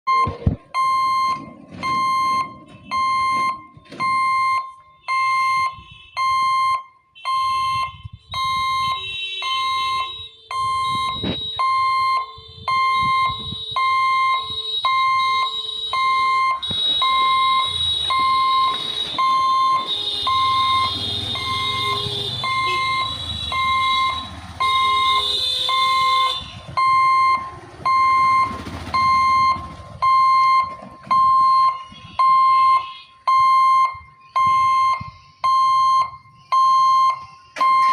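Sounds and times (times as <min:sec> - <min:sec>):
level crossing alarm beeping: 0:00.1 - 0:37.9.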